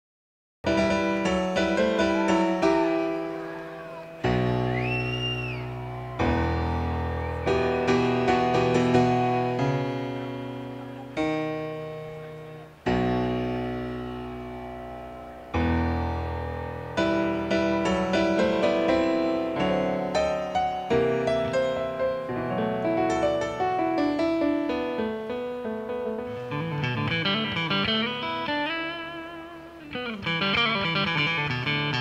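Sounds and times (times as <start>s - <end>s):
solo piano: 0.6s - 32.0s.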